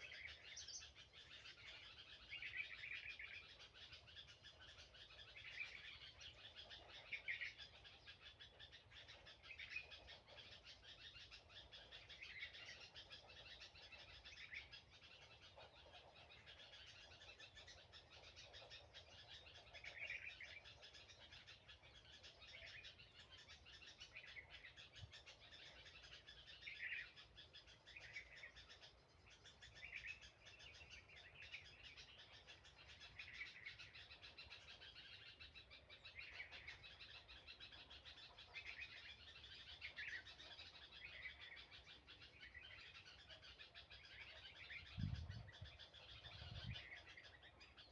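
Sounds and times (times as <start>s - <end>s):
bird chirping: 0.0s - 47.9s
dense bird chatter: 0.0s - 47.9s.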